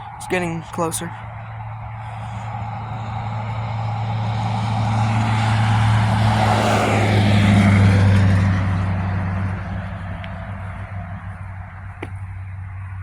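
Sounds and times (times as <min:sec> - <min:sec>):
low engine hum: 0:00.0 - 0:13.0
motor vehicle passing: 0:00.0 - 0:13.0.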